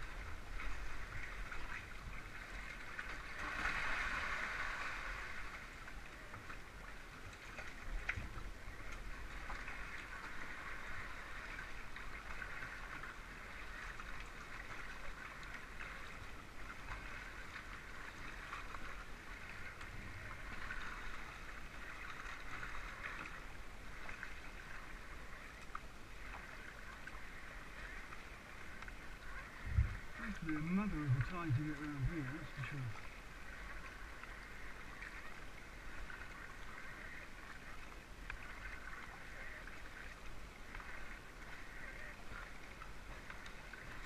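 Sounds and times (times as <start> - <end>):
water splashing around kayak: 0.0 - 44.0.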